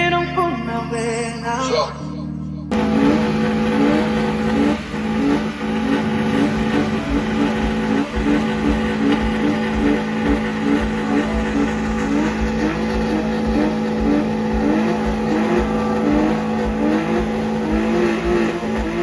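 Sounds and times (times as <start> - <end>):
car engine at high revs: 2.7 - 19.0.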